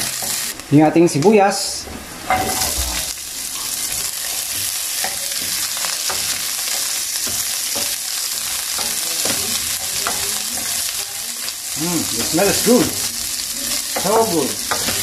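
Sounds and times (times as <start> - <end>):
onions sizzling in hot oil: 0.0 - 15.0
spatula scraping pan: 1.8 - 15.0.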